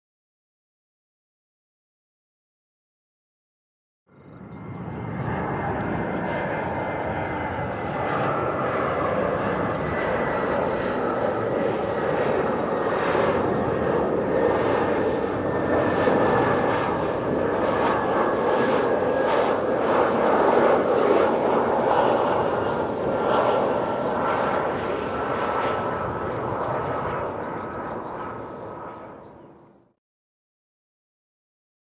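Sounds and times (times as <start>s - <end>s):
jet engine rumble with whine: 4.1s - 30.0s.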